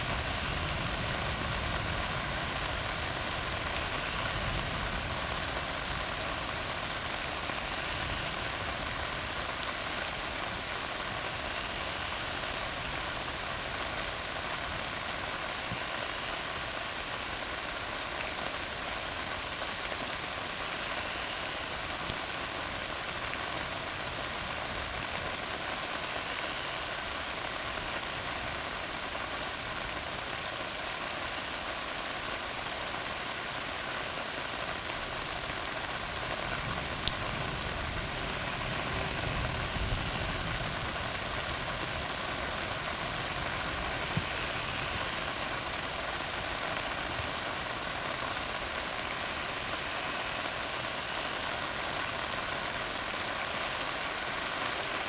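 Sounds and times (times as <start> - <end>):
rain on a road: 0.0 - 55.0.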